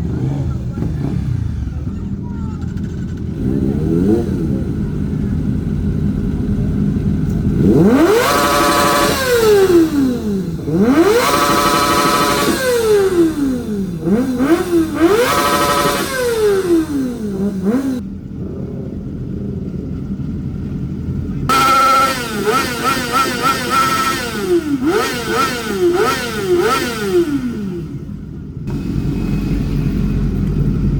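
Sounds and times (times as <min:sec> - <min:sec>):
motorcycle engine idling: 0:00.0 - 0:30.9
motorcycle engine revving: 0:00.0 - 0:30.9.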